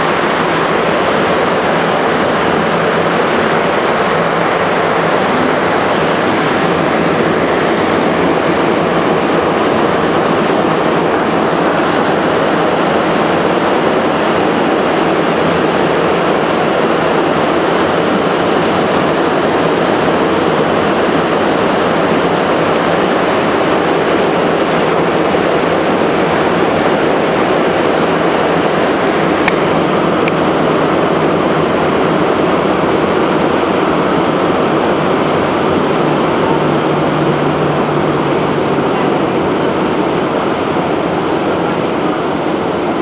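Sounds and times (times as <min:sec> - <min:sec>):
metro car running in tunnel: 0:00.0 - 0:43.0.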